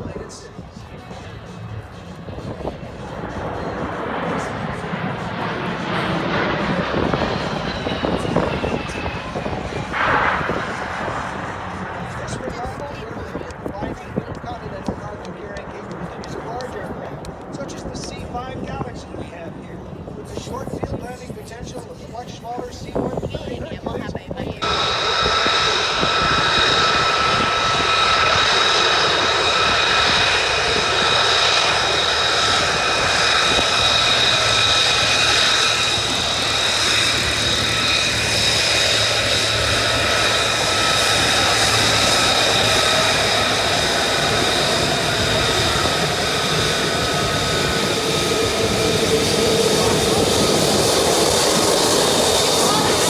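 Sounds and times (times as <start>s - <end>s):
high engine whine: 0.0s - 20.2s, 24.6s - 53.0s
jet engines roaring: 0.0s - 53.0s.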